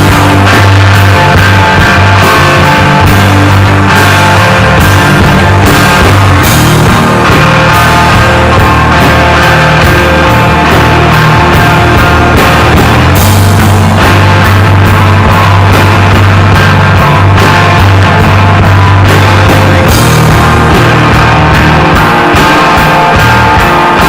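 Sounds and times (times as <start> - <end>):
rock band playing loudly: 0.0 - 24.0.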